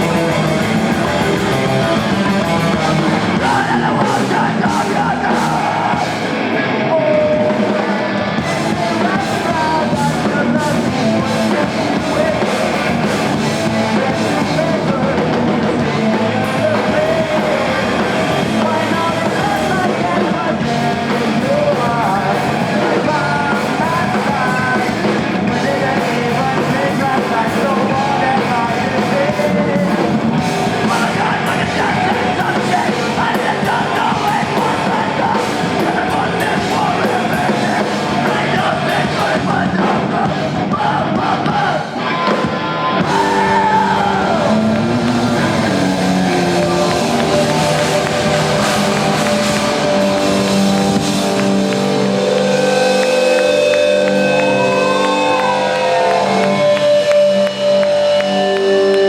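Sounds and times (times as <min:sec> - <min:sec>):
person singing: 0:00.0 - 0:59.0
rock band playing live: 0:00.0 - 0:59.0.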